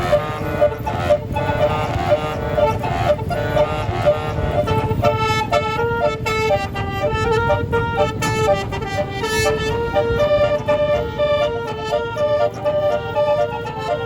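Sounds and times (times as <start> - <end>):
bus engine rumble: 0.0 - 14.0
multi-tone air horn tune: 0.0 - 14.0.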